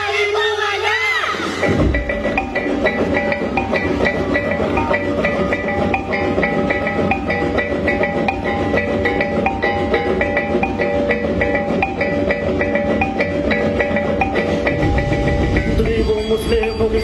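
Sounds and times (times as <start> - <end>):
mallet-struck pitched percussion: 1.6 - 17.0
steady drum beat: 1.6 - 17.0.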